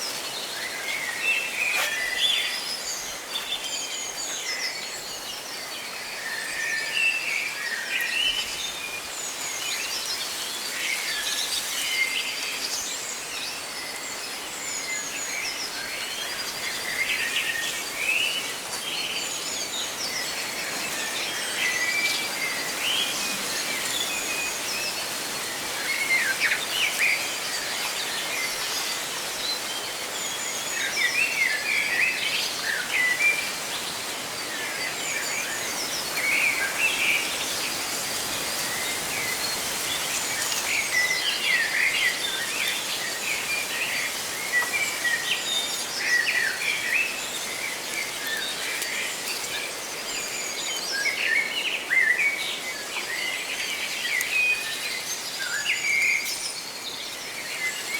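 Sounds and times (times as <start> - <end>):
leaves rustling in wind: 0.0 - 57.9.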